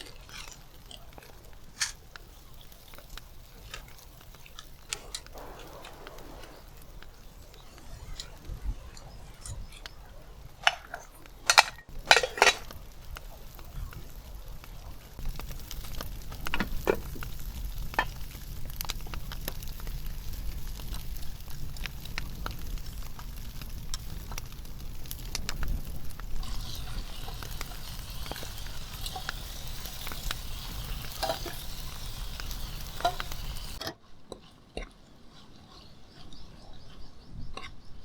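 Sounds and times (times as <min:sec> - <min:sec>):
campfire crackling: 0:00.0 - 0:33.8
food sizzling in a pan: 0:01.7 - 0:10.6, 0:11.9 - 0:33.8.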